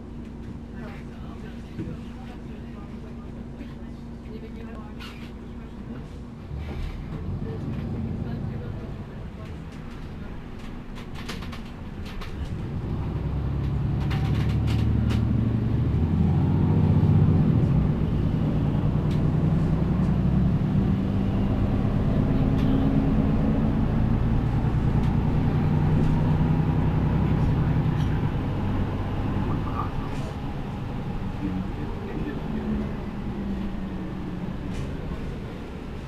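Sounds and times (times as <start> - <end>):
bus diesel engine pulling away: 6.4 - 36.0.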